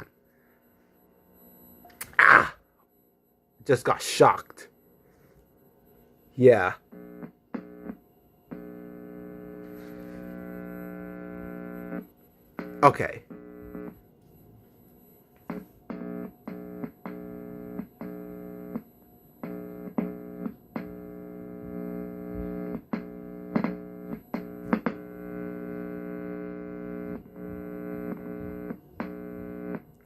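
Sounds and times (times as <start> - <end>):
speaker mains hum buzzing: 0.0 - 30.0.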